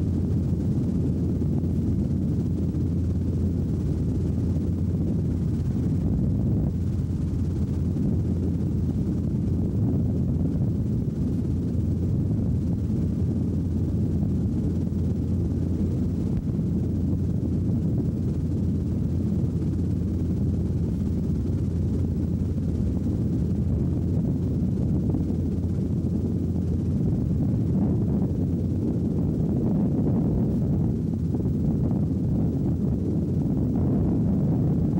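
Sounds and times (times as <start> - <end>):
helicopter engine and rotor drone: 0.0 - 34.9.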